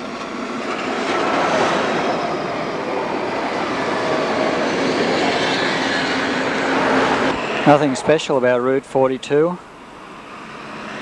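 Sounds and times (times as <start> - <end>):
tram rolling on rails: 0.0 - 11.0.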